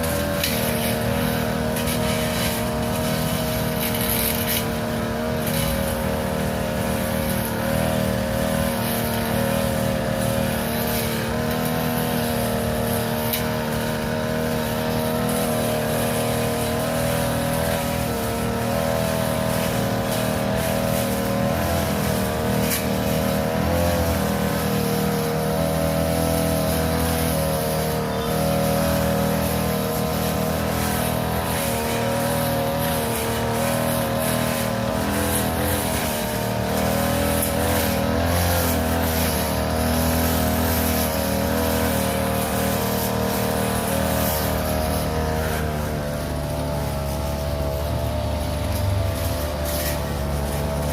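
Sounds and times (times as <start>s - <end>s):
petrol grass cutter engine running: 0.0s - 50.9s.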